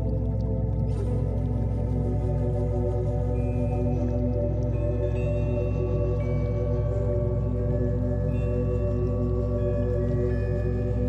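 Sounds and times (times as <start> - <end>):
ambient music with held tones: 0.0 - 11.0
low drone: 0.0 - 11.0.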